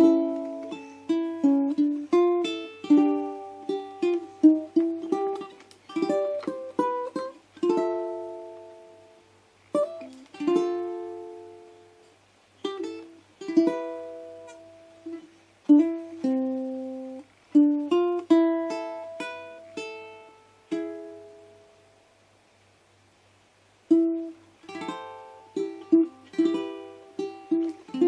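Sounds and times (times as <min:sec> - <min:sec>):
ukulele played slowly: 0:00.0 - 0:22.4, 0:23.8 - 0:28.0.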